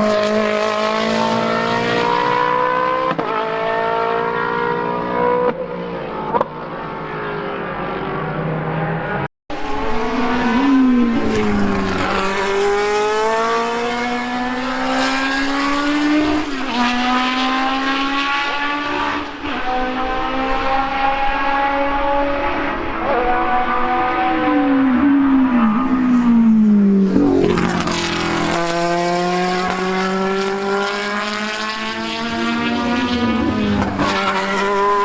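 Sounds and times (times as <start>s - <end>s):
racing car engines accelerating: 0.0s - 35.0s.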